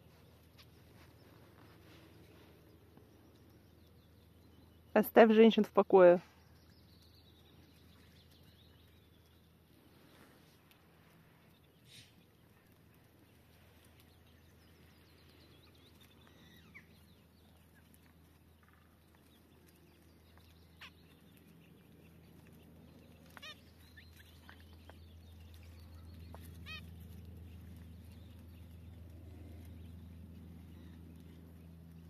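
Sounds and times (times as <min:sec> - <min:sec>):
low steady hum: 0:00.0 - 0:32.0
small birds calling: 0:00.0 - 0:32.0.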